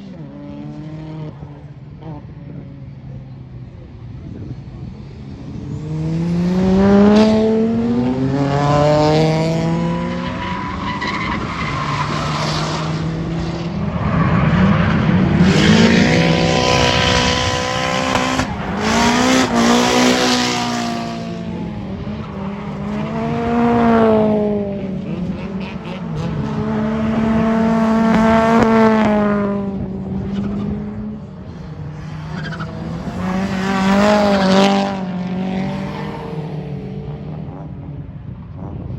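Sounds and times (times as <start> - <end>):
car engines revving high: 0.0 - 38.9.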